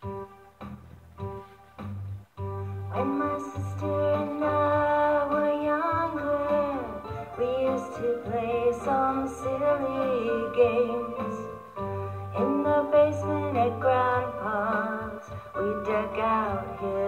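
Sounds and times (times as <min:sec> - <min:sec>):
electronic keyboard backing beat: 0:00.0 - 0:17.0
woman singing: 0:02.9 - 0:17.0.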